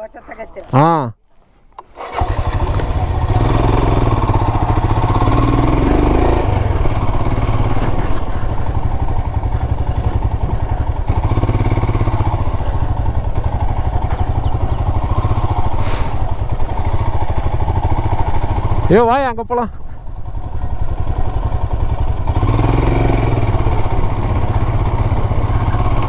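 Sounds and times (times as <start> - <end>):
motorcycle engine running and revving: 2.1 - 26.0.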